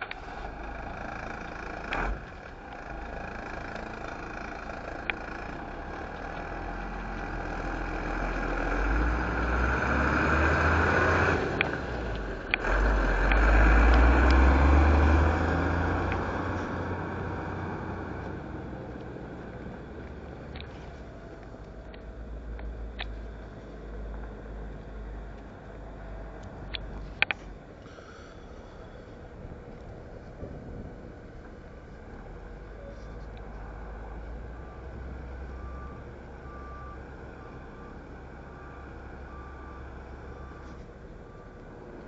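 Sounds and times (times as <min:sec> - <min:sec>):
truck engine driving past: 0:00.0 - 0:42.0.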